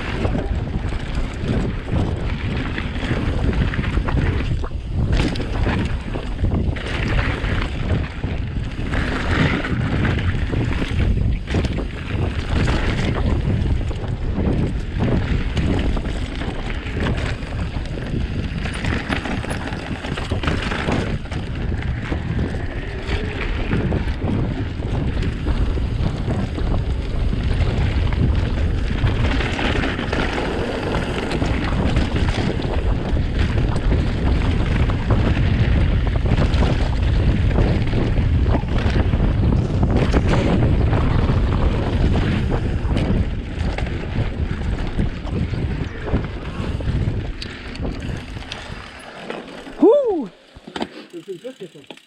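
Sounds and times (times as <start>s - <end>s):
wind buffeting microphone: 0.0s - 50.6s.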